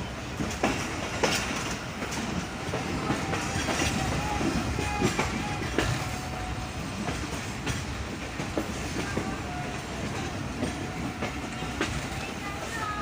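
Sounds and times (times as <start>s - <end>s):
train cars rumbling: 0.0s - 13.0s
train wheel clicks on rail joints: 0.3s - 6.2s, 6.9s - 12.7s.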